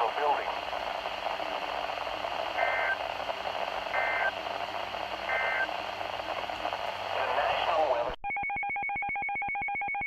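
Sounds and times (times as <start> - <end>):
radio static: 0.0 - 8.2.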